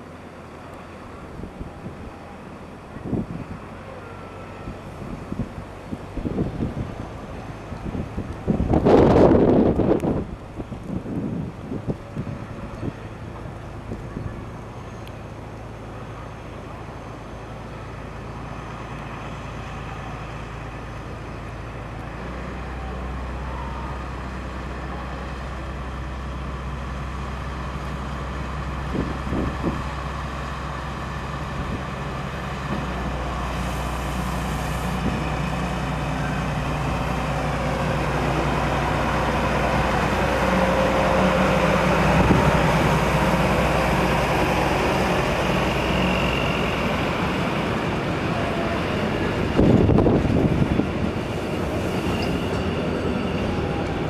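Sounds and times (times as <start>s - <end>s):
diesel locomotive engine: 0.0s - 54.0s
wheels and wagons rumbling: 0.0s - 54.0s.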